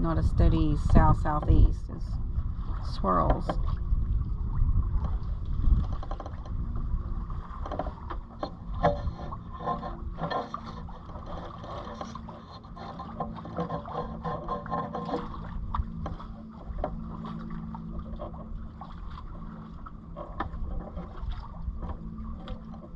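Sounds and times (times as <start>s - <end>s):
water splashing against hull: 0.0s - 22.9s
wind rumbling on microphone: 0.0s - 22.9s.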